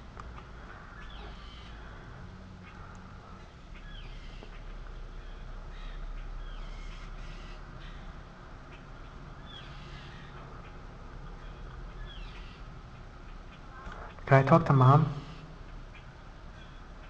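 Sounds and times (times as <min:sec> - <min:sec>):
steady low hum: 0:00.0 - 0:17.0
harsh bird alarm calls: 0:00.3 - 0:17.0.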